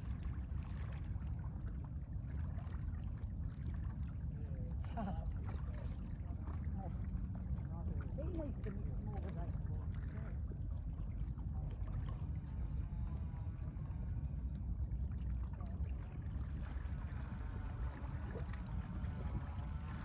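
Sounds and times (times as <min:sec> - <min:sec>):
small waves washing: 0:00.0 - 0:20.0
steady low rumble: 0:00.0 - 0:20.0.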